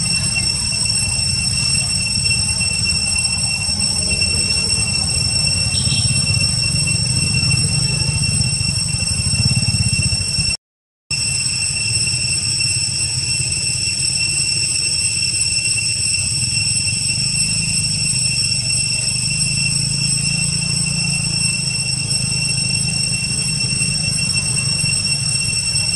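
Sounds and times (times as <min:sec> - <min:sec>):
steady high-pitched whine: 0:00.0 - 0:25.9.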